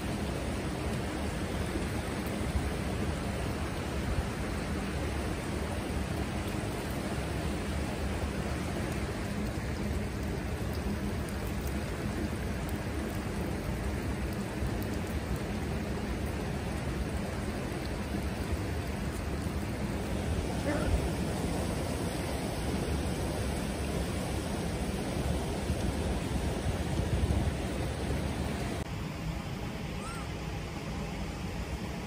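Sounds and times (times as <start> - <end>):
flowing water rushing: 0.0 - 29.1.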